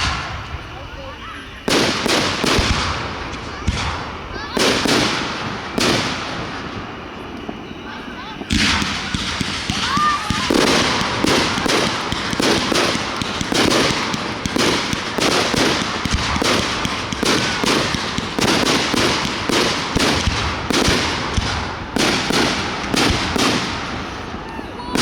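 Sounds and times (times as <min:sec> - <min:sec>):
fireworks bangs: 0:00.0 - 0:25.0
fireworks crackle: 0:00.0 - 0:25.0.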